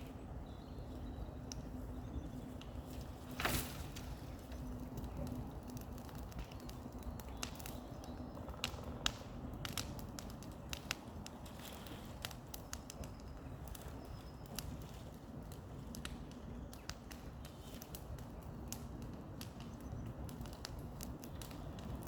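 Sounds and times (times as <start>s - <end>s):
bonfire wood crackling and snapping: 0.0s - 22.0s.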